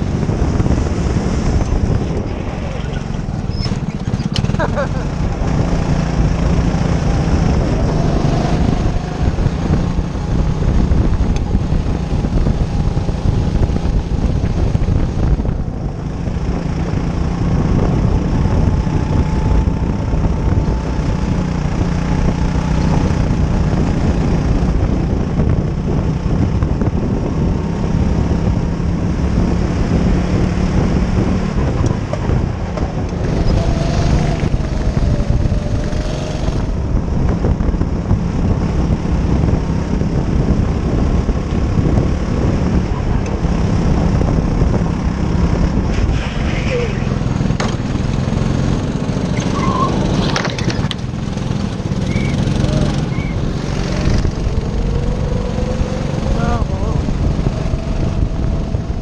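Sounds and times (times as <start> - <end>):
go-kart engine running: 0.0 - 59.0
other go-kart engines: 0.0 - 59.0.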